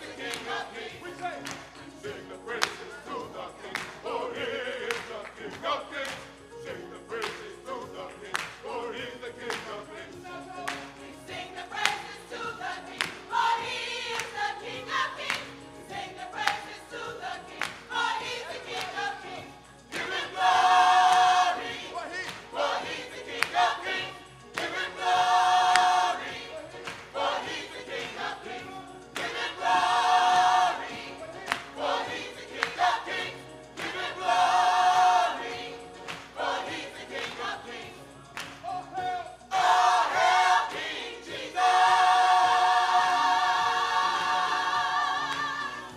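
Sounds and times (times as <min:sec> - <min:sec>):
gospel choir singing: 0:00.0 - 0:45.9.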